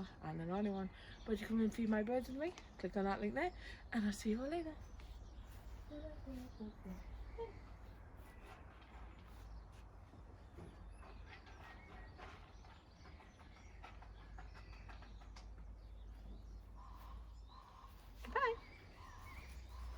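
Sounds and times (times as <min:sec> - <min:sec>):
faint birds calling: 0:00.0 - 0:19.9.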